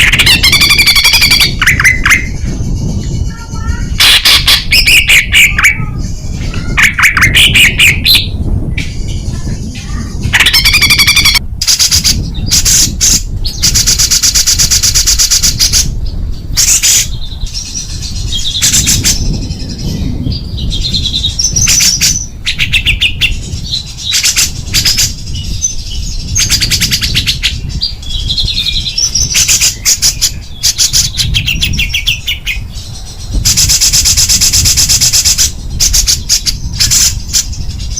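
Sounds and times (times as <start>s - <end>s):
songbird singing buzzy trills: 0.0s - 37.9s.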